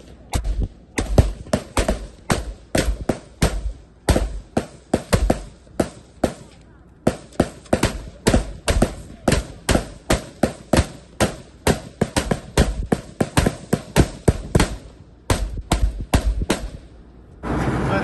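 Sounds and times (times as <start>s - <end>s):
rifle shots: 0.4s - 6.5s, 7.1s - 16.9s.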